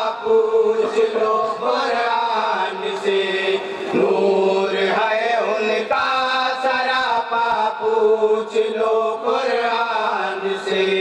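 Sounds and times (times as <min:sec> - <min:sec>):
men chanting devotional verse: 0:00.0 - 0:11.0.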